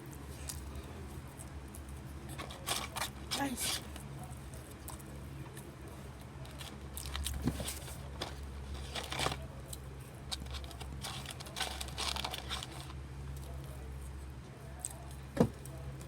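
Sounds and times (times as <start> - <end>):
child chewing crunchy fries: 0.0 - 16.0
crinkling: 0.4 - 13.8.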